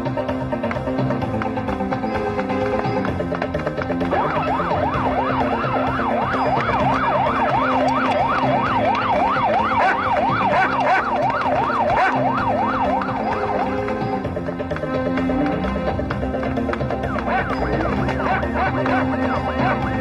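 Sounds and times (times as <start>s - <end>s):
police siren yelping: 2.5s - 20.0s.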